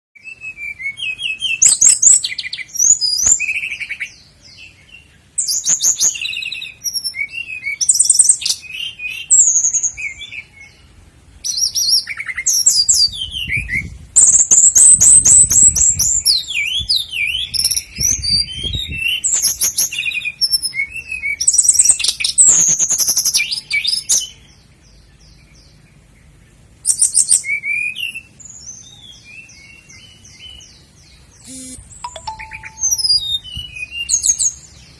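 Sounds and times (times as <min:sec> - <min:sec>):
nightingale singing: 0:00.2 - 0:34.9.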